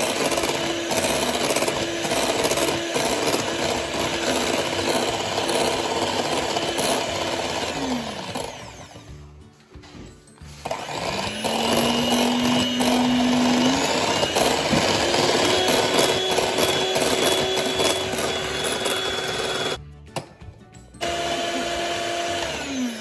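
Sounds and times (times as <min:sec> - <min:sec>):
electric hand mixer whirring: 0:00.0 - 0:09.2, 0:10.5 - 0:19.8, 0:21.0 - 0:23.0.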